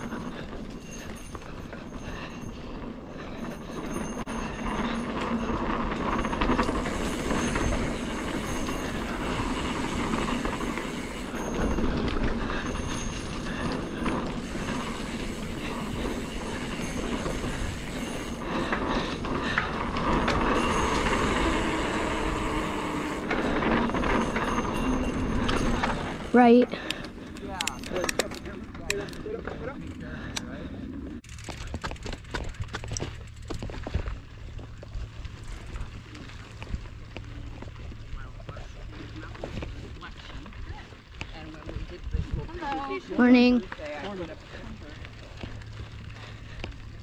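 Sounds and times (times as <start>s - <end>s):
wind rumbling on microphone: 0.0s - 43.1s
bike chain and frame rattling: 0.0s - 47.0s
bike tyres rolling on dirt: 0.0s - 47.0s.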